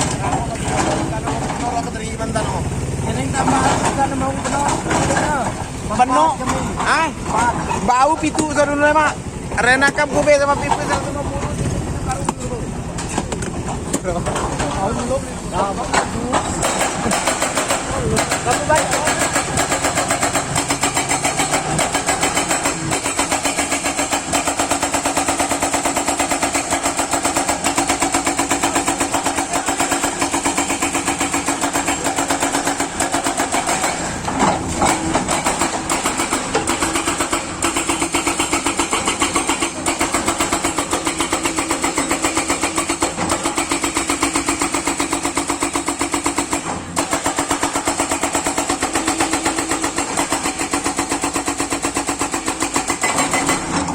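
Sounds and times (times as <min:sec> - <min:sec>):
diesel engine running: 0:00.0 - 0:51.8.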